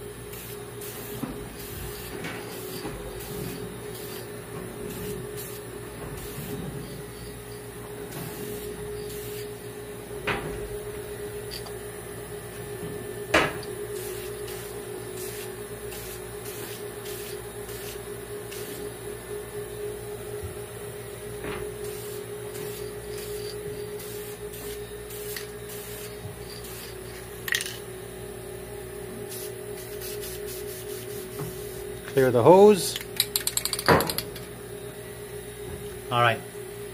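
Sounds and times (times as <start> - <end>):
mechanical hum: 0.0 - 36.9.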